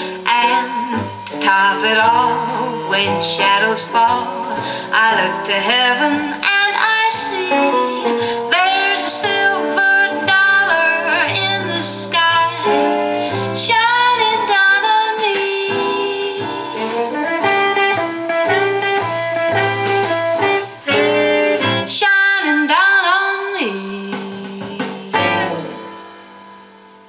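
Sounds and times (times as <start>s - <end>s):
instrumental melodic lead: 0.0s - 27.0s
recorded song through valve amplifier: 0.0s - 27.0s.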